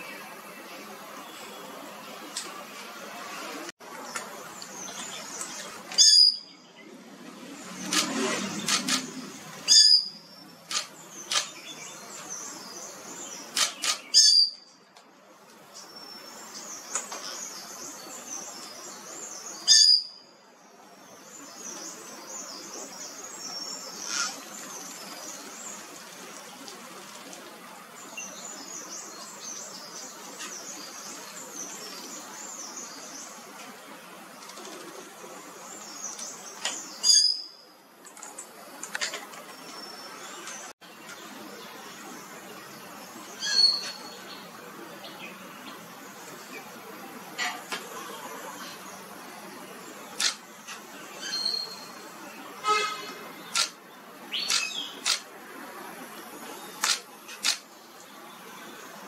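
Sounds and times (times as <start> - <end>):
small birds chirping: 0.0 - 14.8, 15.5 - 59.0.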